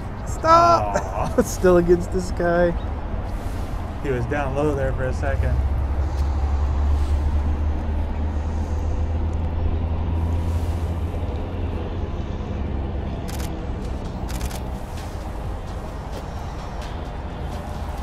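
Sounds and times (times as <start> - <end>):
vehicle engine rumbling low: 0.0 - 18.0.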